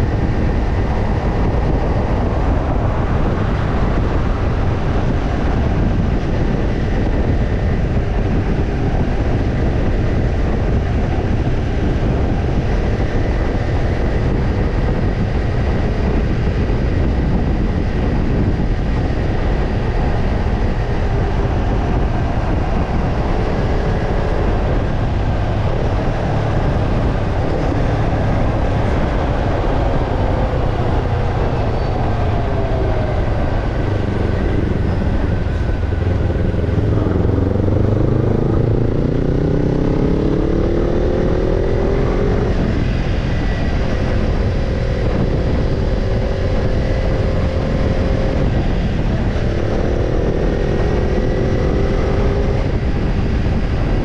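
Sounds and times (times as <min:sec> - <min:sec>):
motorcycle exhaust revving: 0:00.0 - 0:54.0
road and wind noise: 0:00.0 - 0:54.0.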